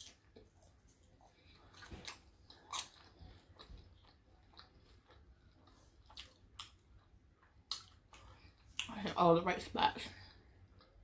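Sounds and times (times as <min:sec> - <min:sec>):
chewing crispy food: 0:00.0 - 0:11.0.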